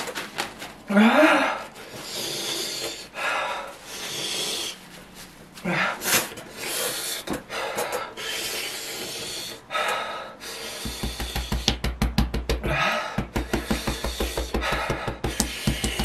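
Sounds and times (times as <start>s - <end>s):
person huffing breaths: 0.9s - 4.9s, 5.6s - 11.8s, 12.6s - 16.0s.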